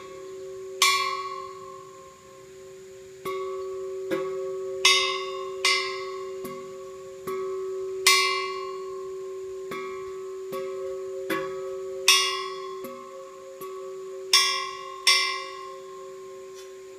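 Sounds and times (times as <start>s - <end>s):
metal gong struck and ringing: 0.0s - 16.6s.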